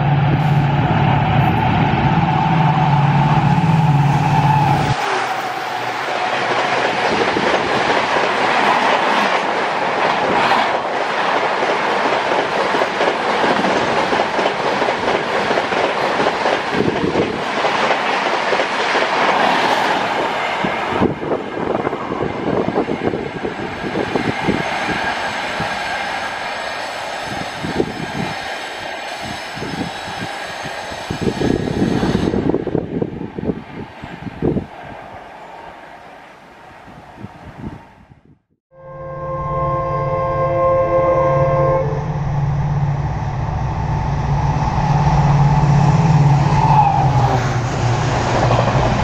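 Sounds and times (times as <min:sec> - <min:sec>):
diesel locomotive passing: 0:00.0 - 0:38.2, 0:38.8 - 0:49.0.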